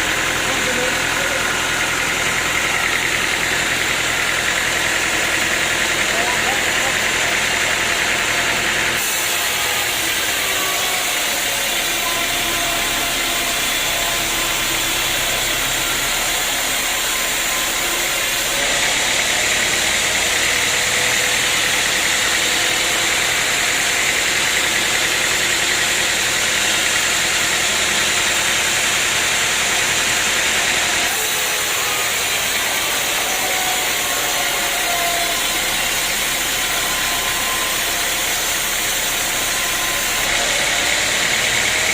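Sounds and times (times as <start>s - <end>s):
sawmill machinery running: 0.0s - 41.9s.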